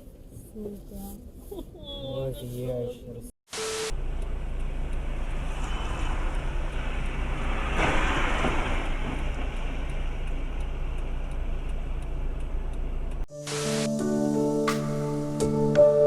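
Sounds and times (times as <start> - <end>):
vehicle rumble: 0.0 - 13.3.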